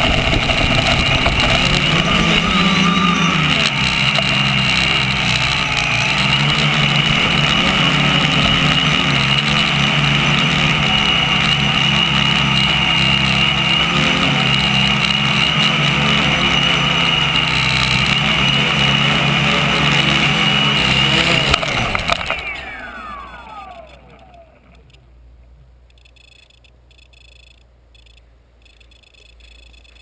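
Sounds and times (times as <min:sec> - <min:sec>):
motors spinning down with whine: 0:00.0 - 0:25.1
drone motors and propellers running: 0:00.0 - 0:25.2, 0:25.8 - 0:30.0.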